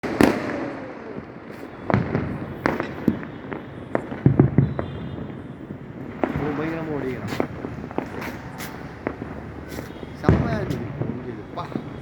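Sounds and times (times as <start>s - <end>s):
firecrackers banging: 0.0s - 12.0s
fireworks crackling: 0.0s - 12.0s.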